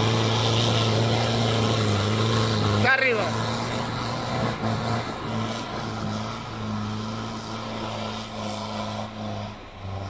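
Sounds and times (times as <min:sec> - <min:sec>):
engine droning at steady revs: 0:00.0 - 0:10.0.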